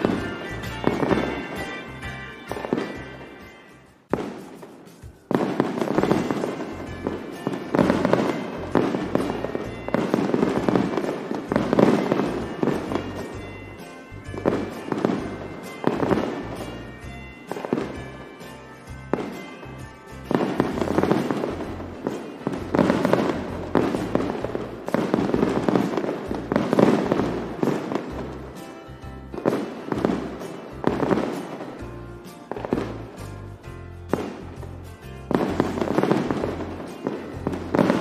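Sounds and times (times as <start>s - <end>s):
fireworks bangs: 0.0s - 38.0s
music playing: 0.0s - 38.0s.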